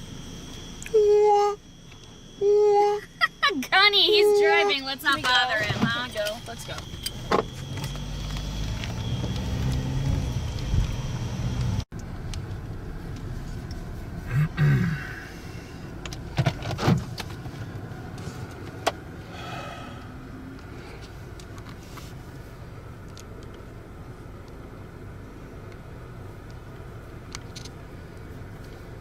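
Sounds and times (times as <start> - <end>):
car engine rumble: 0.0 - 29.0.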